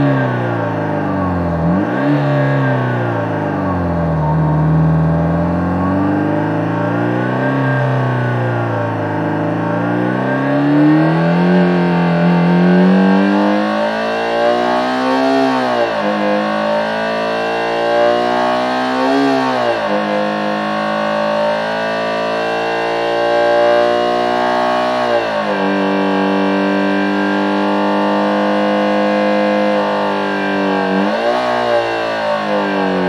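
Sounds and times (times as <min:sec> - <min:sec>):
synthesized engine revving: 0:00.0 - 0:33.0.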